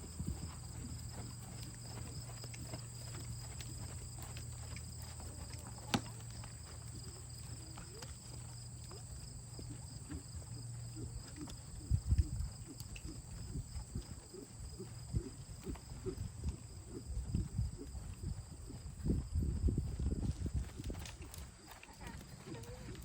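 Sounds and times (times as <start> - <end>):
horse hooves thudding: 0.0 - 23.0.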